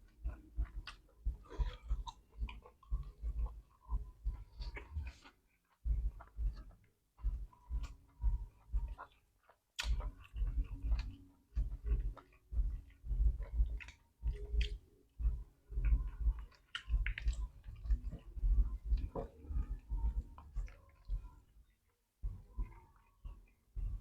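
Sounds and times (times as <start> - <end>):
chewing and mouth smacking: 0.0 - 24.0.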